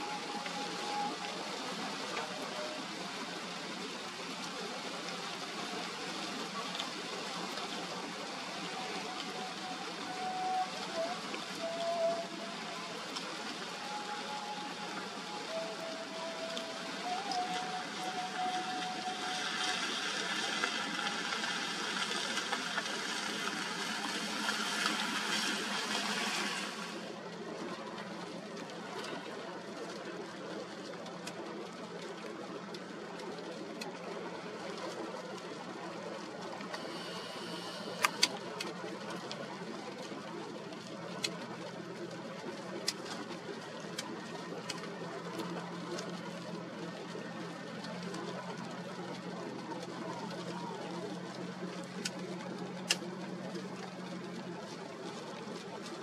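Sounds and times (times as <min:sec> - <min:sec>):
faint thin whine: 0:00.0 - 0:56.0
heavy rain hissing: 0:00.0 - 0:56.0.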